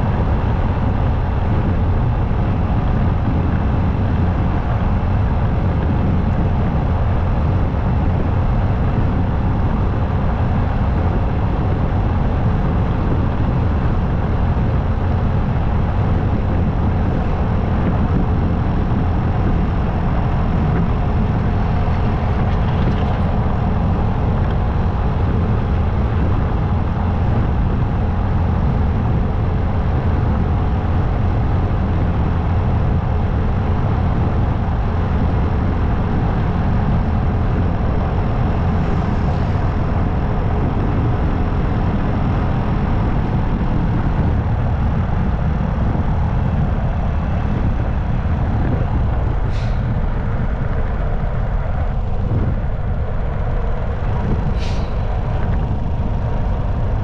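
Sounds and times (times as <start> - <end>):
wind rush and road noise: 0.0 - 57.0.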